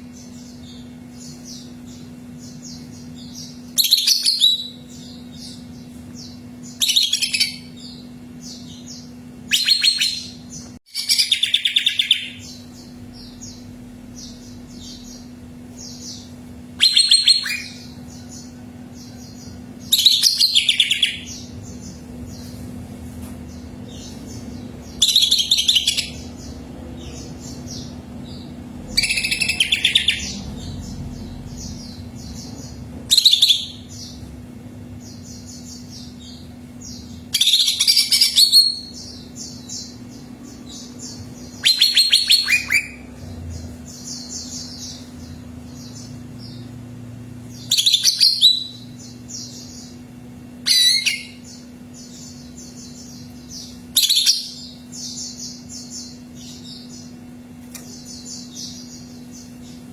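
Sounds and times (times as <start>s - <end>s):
bird singing varied phrases: 0.0s - 22.5s, 23.5s - 59.9s
rapid bird chirping: 0.0s - 22.6s, 23.4s - 59.9s
steady low hum: 0.0s - 59.9s.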